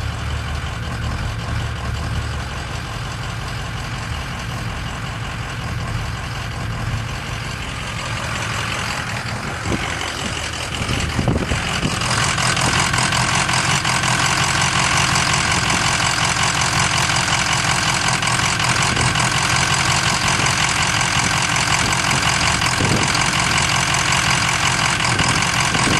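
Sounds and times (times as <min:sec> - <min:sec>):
diesel engine idling roughly: 0:00.0 - 0:25.9.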